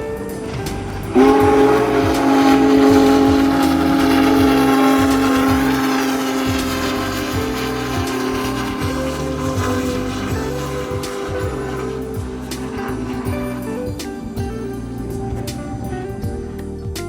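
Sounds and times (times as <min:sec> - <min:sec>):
steam whistle blast: 0:00.0 - 0:14.5.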